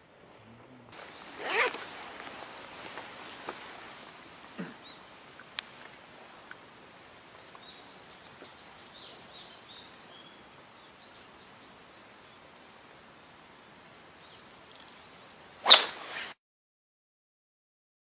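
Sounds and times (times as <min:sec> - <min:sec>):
faint outdoor hiss: 0:00.0 - 0:16.4.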